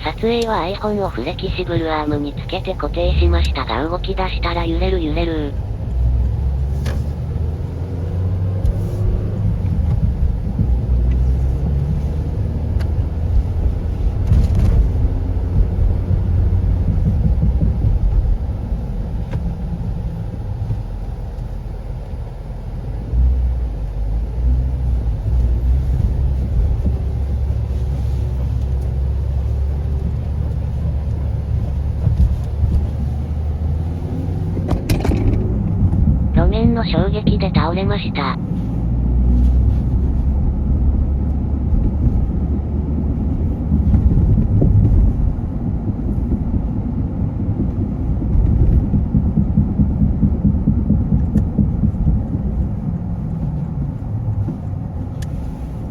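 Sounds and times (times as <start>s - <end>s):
car engine and road rumble: 0.0s - 55.9s.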